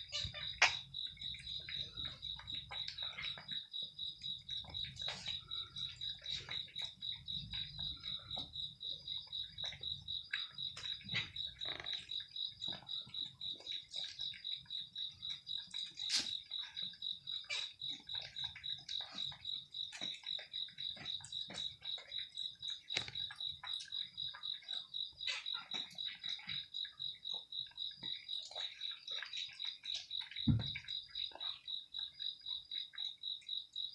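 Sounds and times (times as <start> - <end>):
crickets chirping: 0.0 - 33.9
chewing clicks and crunches: 0.1 - 33.8.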